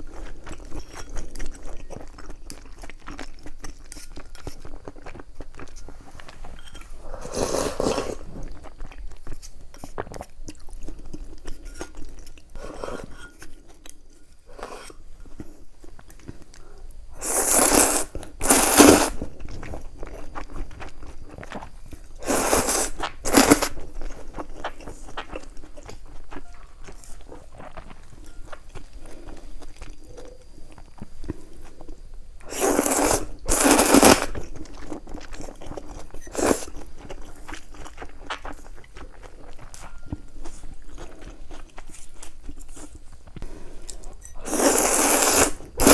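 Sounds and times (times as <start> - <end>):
chewing and mouth clicks: 0.0 - 7.0, 7.8 - 12.6, 14.9 - 45.9.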